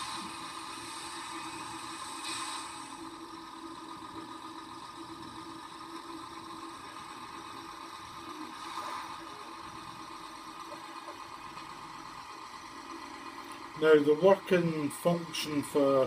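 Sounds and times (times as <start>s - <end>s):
simulated diesel engine from small speaker: 0.0s - 16.0s.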